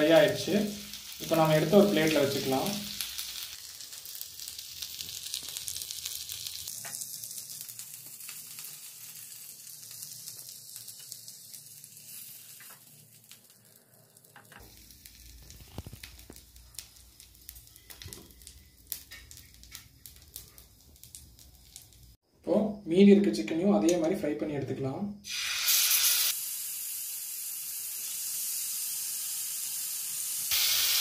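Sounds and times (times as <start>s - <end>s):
meat sizzling in oil: 0.0s - 22.8s, 25.2s - 31.0s.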